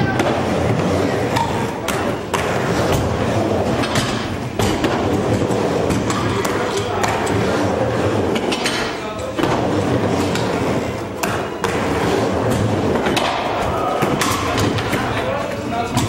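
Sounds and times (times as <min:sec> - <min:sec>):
wheels rolling on wooden ramps: 0:02.3 - 0:16.0.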